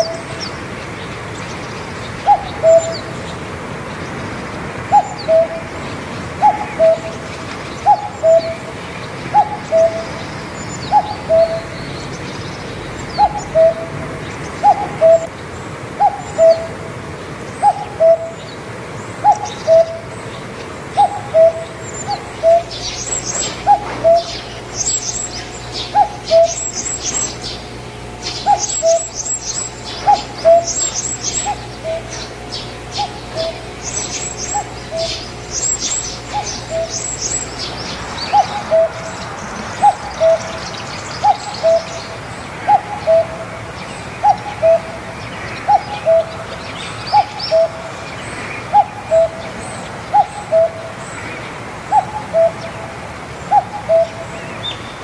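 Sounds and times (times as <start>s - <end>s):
cuckoo calling: 0.0s - 55.0s
small birds chirping: 0.0s - 55.0s.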